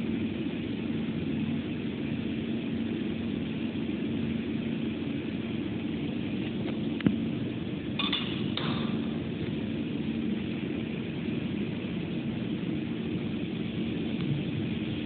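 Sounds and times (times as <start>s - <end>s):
printer humming and hissing: 0.0s - 15.0s.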